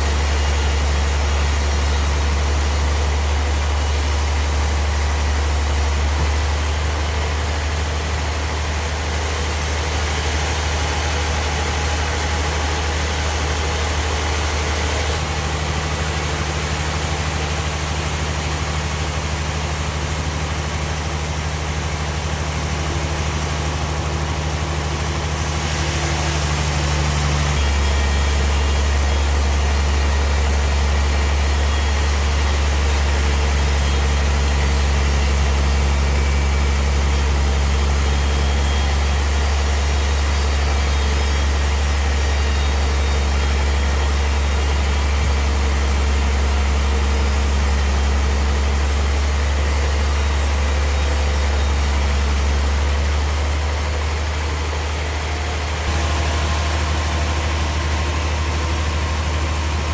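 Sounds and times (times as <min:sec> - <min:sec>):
heavy engine humming: 0:00.0 - 0:59.9.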